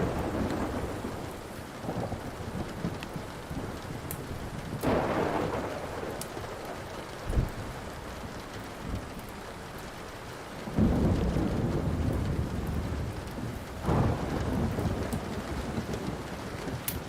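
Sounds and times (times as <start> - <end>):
steady rain: 0.0 - 17.0
thunder rumbling: 0.0 - 17.0
wood fire crackling: 0.0 - 17.0.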